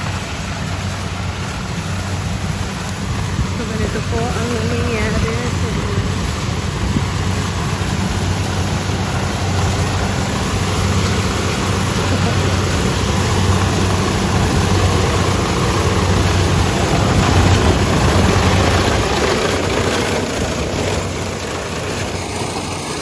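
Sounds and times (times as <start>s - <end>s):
diesel engine under load: 0.0s - 23.0s
threshing machinery rushing: 3.1s - 23.0s.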